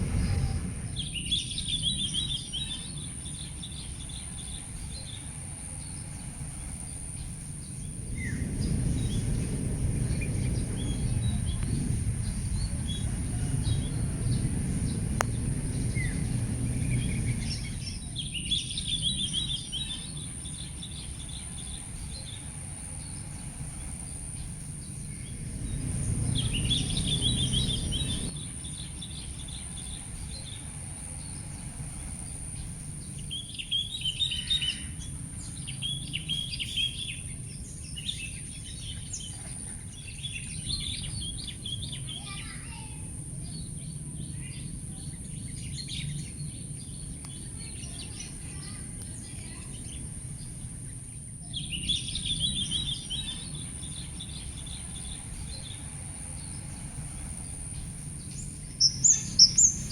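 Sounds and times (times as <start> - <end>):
low outdoor rumble: 0.0 - 59.9
songbird twittering: 0.1 - 59.9.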